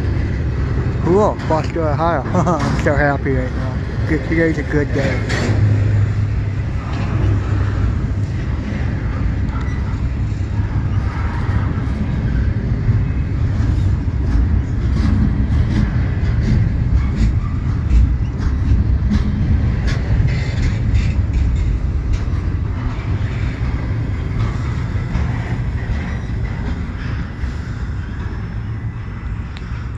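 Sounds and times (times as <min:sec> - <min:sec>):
train wheels rumbling on rail: 0:00.0 - 0:29.9
clicks and clanks: 0:01.1 - 0:03.6, 0:04.5 - 0:12.0, 0:13.6 - 0:27.6.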